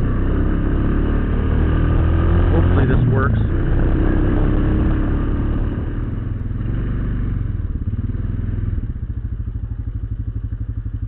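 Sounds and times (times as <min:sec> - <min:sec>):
muffled atv engine running: 0:00.0 - 0:11.0.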